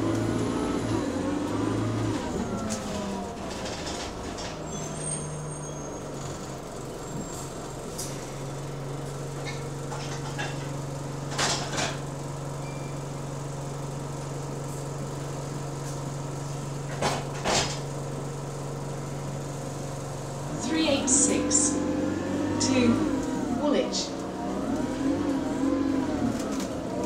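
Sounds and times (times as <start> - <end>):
diesel bus engine idling: 0.0 - 27.0.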